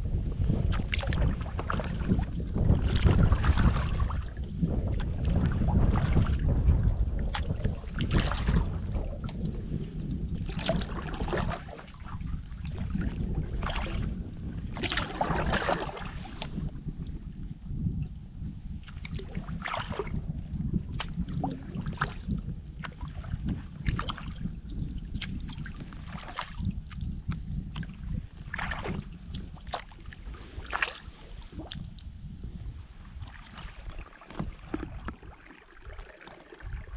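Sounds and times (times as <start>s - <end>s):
wind rumble on microphone: 0.0s - 36.9s
paddle strokes splashing in water: 0.4s - 16.7s, 18.7s - 32.1s, 32.7s - 36.9s.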